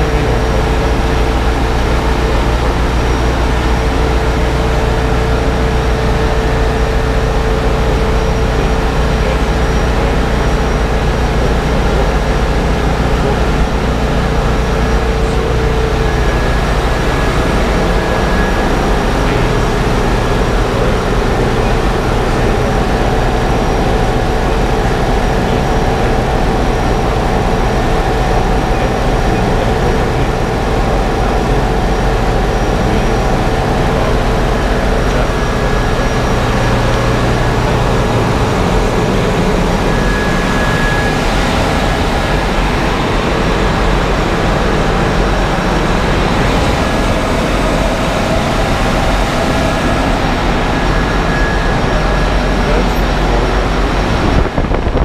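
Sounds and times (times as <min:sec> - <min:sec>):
faint whining tones: 0:00.0 - 0:55.0
low machinery hum: 0:00.0 - 0:55.0.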